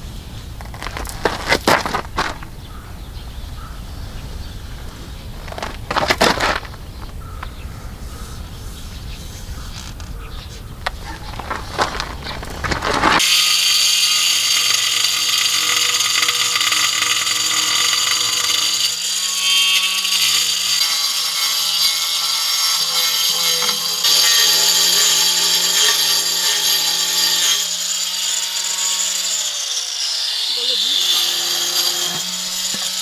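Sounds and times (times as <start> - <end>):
power tool grinding: 0.0 - 33.0.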